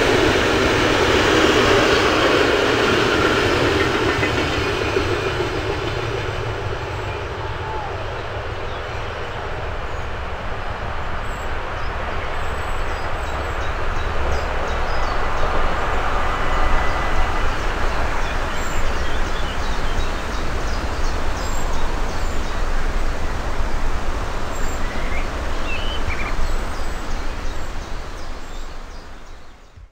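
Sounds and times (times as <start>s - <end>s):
train wheels on rail: 0.0s - 29.9s.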